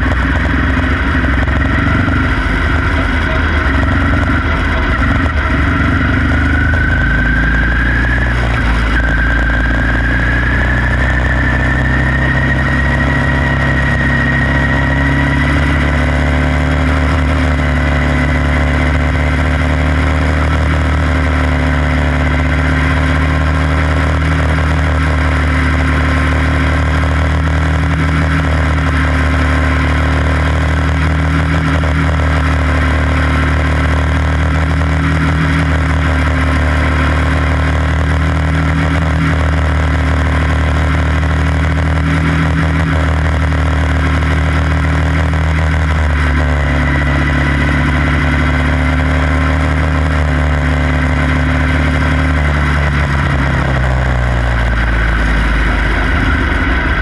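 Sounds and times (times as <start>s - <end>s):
race car engine running flat out: 0.0s - 57.0s.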